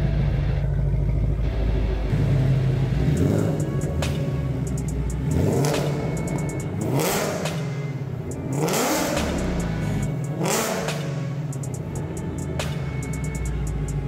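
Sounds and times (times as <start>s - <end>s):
background music: 0.0s - 14.0s
car engine revving: 0.0s - 14.0s.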